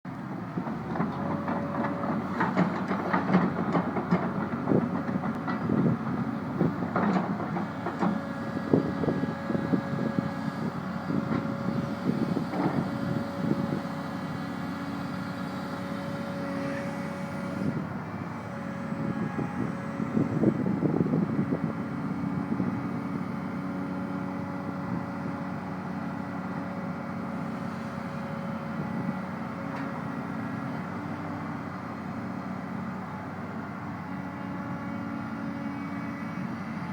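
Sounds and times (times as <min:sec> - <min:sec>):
excavator diesel engine droning: 0:00.1 - 0:36.9.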